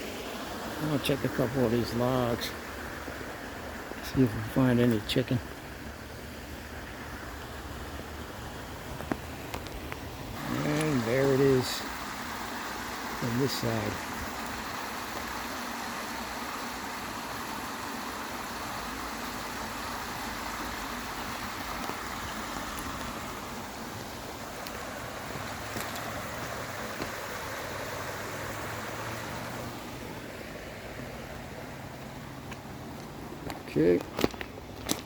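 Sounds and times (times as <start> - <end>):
water rushing over waterfall: 0.0 - 33.4.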